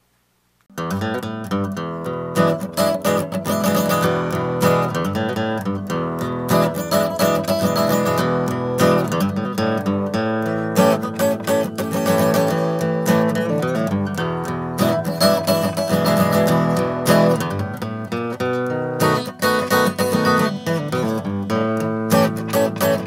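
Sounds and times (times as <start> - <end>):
strummed guitar chords: 0.7 - 23.0.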